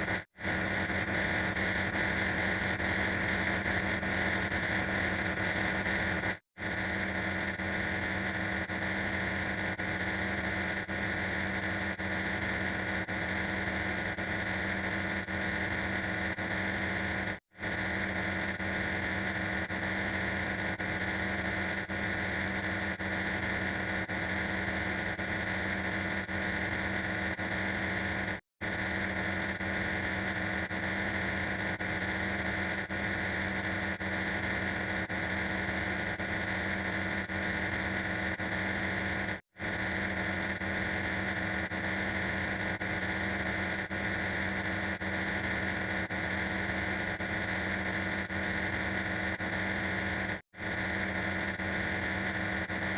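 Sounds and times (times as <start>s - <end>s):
harsh distorted noise: 0.0s - 52.9s.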